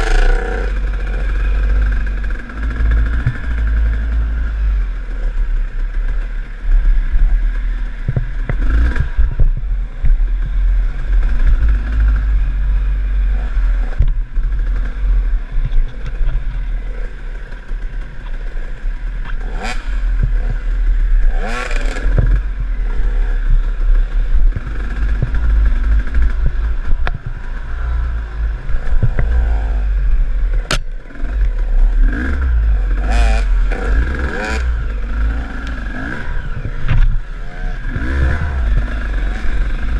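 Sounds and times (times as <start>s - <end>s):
dirt bike engine revving: 0.0s - 15.6s, 16.6s - 39.9s.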